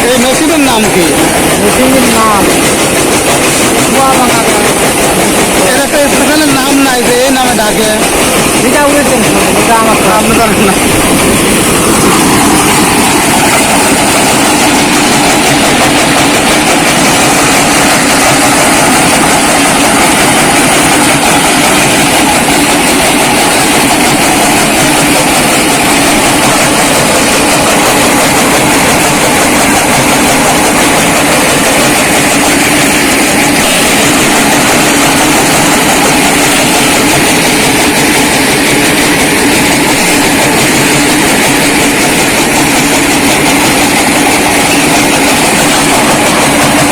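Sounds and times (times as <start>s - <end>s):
brick-breaking machine running: 0.0s - 46.9s.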